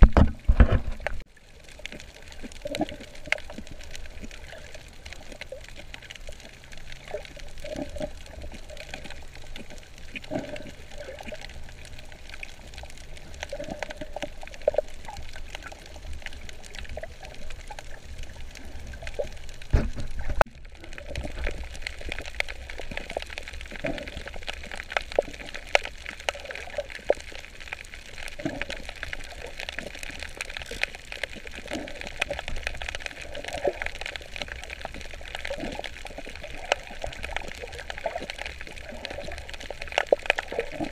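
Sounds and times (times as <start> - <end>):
small sharp underwater clicks: 0.0 - 40.9
underwater rush with bubbling: 0.0 - 40.9.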